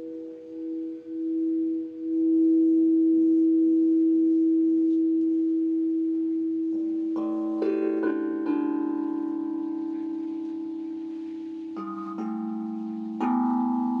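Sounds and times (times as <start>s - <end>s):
singing bowl tone: 0.0s - 14.0s.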